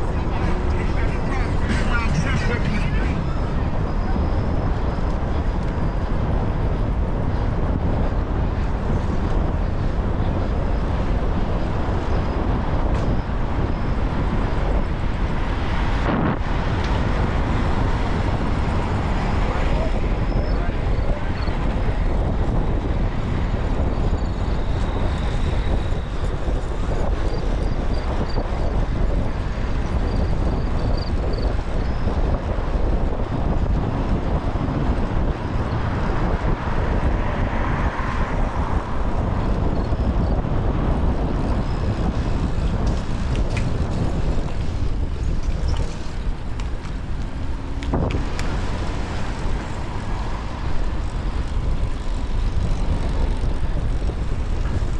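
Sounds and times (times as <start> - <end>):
city traffic noise: 0.0 - 54.9
wind rumble on microphone: 0.0 - 54.9.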